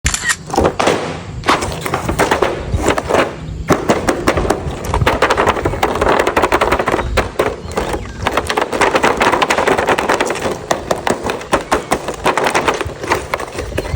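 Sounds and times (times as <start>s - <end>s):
plastic toys clattering: 0.5s - 13.9s.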